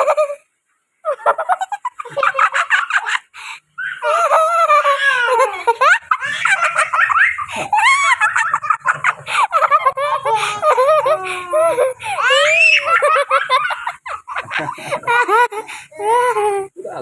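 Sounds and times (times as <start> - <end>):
person giggling and squealing: 0.0 - 0.4, 1.0 - 16.7.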